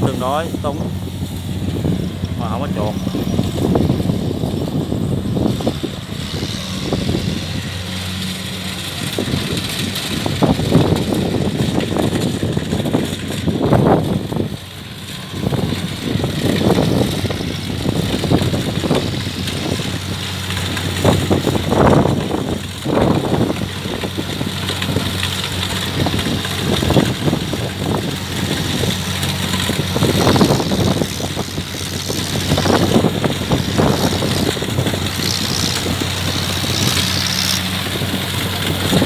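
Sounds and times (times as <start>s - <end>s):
diesel engine running: 0.0s - 39.0s
rushes of noise: 0.0s - 39.0s.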